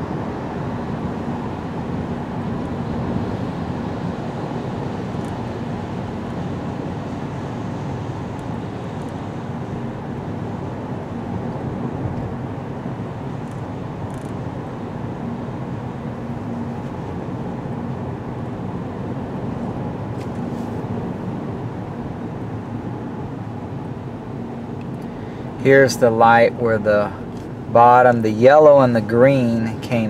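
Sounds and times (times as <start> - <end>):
car engine hum: 0.0 - 30.0.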